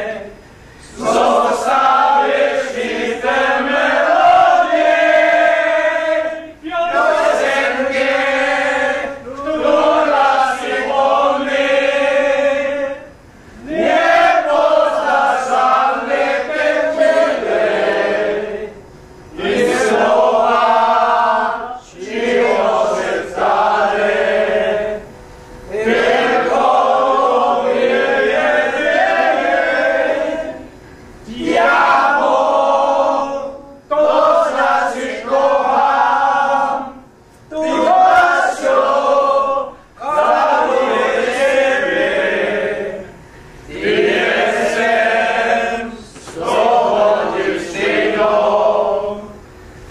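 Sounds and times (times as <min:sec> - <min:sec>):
men singing together: 0:00.0 - 0:25.1, 0:25.7 - 0:49.4.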